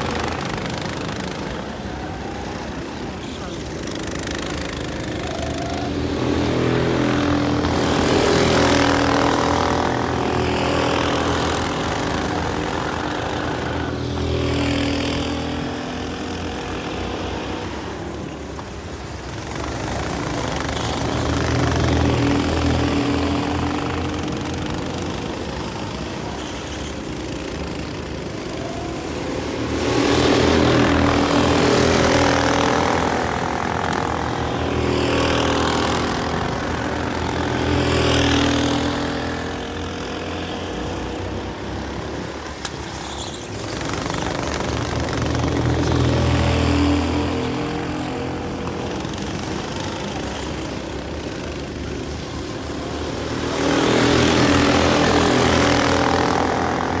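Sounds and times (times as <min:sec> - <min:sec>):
go-kart engines racing: 0:00.0 - 0:57.0.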